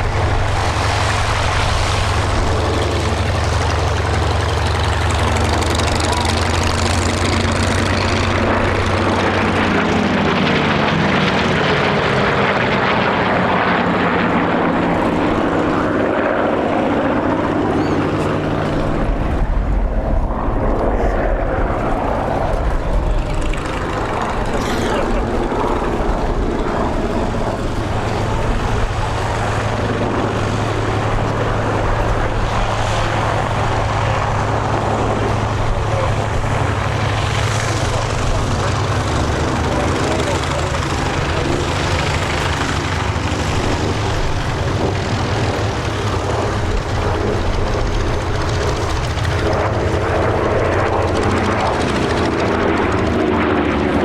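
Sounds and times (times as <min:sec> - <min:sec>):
propeller aircraft engines passing: 0:00.0 - 0:54.0.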